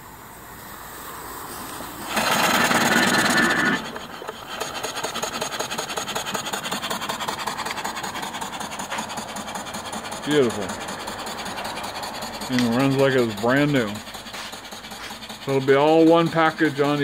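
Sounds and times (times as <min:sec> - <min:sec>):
loud rush of steam: 0:00.0 - 0:17.0
steam engine chuffing: 0:00.0 - 0:17.0.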